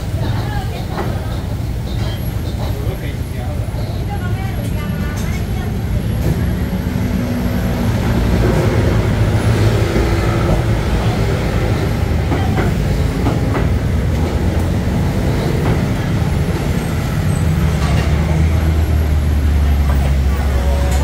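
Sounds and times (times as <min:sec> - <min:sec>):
heavy vehicle running: 0:00.0 - 0:21.0
street traffic rumble: 0:00.0 - 0:21.0.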